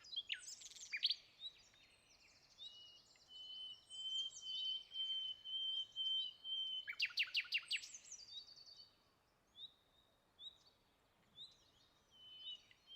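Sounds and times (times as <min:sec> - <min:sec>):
songbirds singing: 0:00.0 - 0:12.9.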